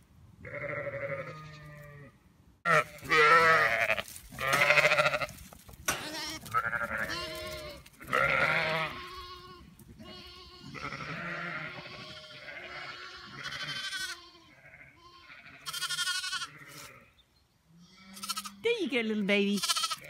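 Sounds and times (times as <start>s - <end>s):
sheep bleating: 0.4s - 5.3s, 5.9s - 17.1s, 17.8s - 18.8s, 19.6s - 20.0s.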